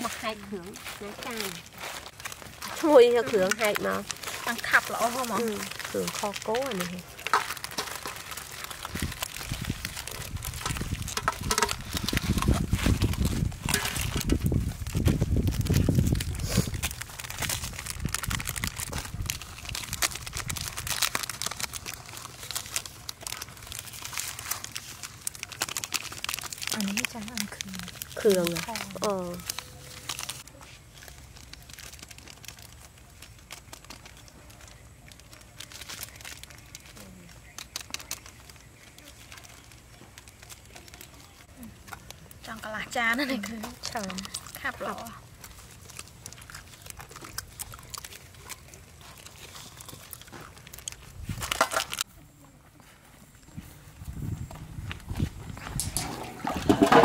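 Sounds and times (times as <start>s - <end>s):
plastic sachets crinkling and tearing: 0.0s - 52.4s, 53.4s - 57.0s.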